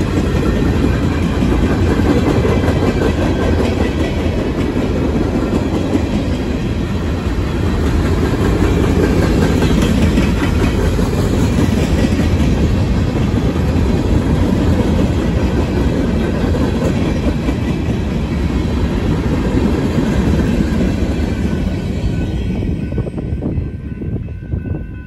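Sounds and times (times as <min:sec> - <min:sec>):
freight train wheels clickety-clack: 0:00.0 - 0:25.0.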